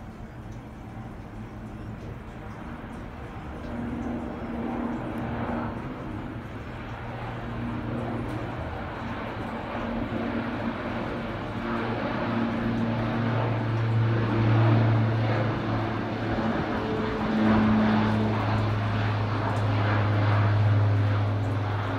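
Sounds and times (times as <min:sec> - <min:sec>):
propeller engine droning: 0:00.0 - 0:21.9.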